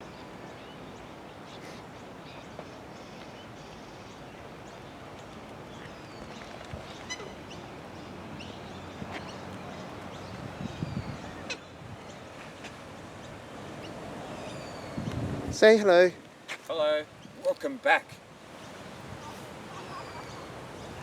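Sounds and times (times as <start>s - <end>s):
bird calls and chirps: 0.0s - 15.2s, 18.6s - 21.0s
outdoor background noise: 0.0s - 21.0s.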